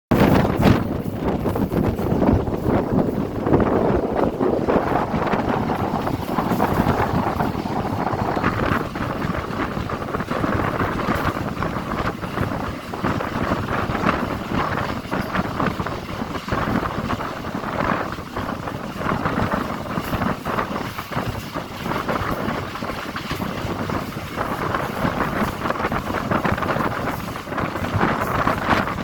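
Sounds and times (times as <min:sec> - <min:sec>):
passenger train running: 0:00.1 - 0:29.0
wind buffeting microphone: 0:00.1 - 0:29.0.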